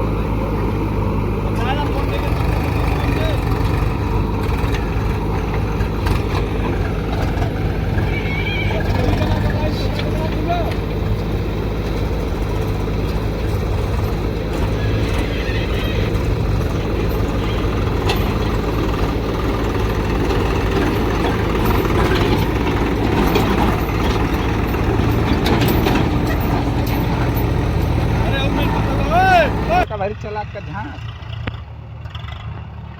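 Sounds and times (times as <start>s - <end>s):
heavy diesel engines running: 0.0s - 32.9s.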